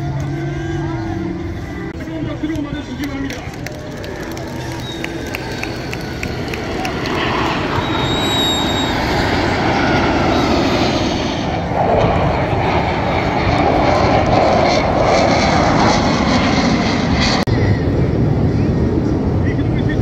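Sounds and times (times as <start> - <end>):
jet engines rushing past: 0.0 - 20.0.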